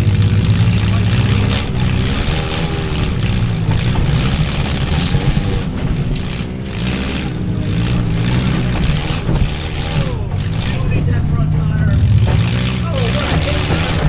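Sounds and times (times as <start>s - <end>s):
van engine revving: 0.0s - 14.0s.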